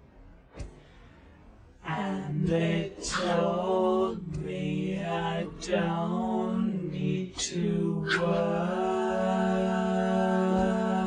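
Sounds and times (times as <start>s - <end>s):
voices singing held notes: 1.8s - 11.0s.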